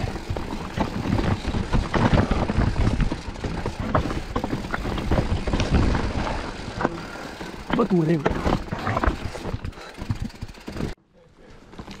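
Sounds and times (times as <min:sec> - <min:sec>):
bike rattling and knocking: 0:00.0 - 0:11.0
mountain bike rumbling over stones: 0:00.0 - 0:11.0.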